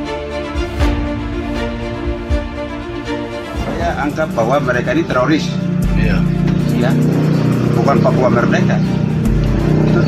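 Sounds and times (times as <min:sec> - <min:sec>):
held chords over slow beat: 0:00.0 - 0:10.0.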